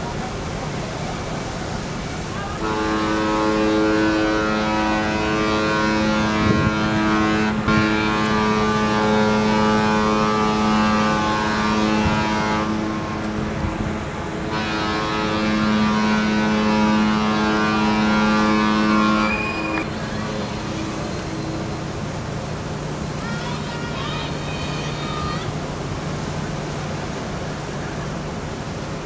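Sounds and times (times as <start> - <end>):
ship's horn long blast: 0.0 - 29.0.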